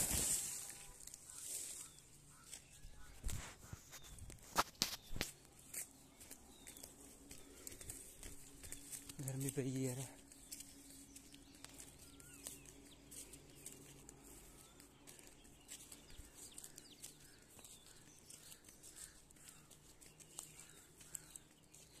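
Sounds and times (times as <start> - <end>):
distant bird chirps: 0.0 - 22.0.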